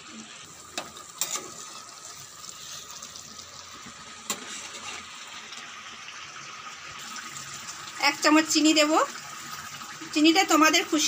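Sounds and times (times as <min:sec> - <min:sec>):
curry simmering in a pan: 0:00.0 - 0:11.0.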